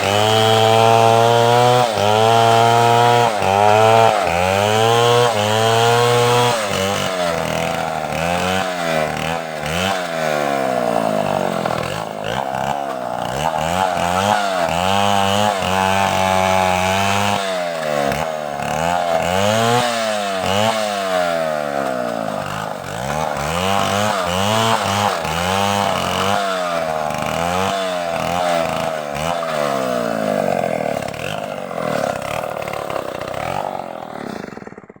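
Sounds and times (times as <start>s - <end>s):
chainsaws cutting logs: 0.0s - 35.0s.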